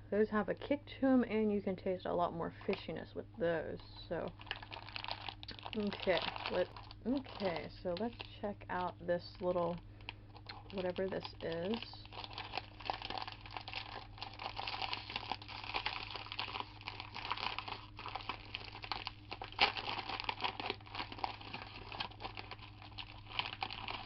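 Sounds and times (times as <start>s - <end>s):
plastic wrapper crinkling: 4.1s - 24.0s.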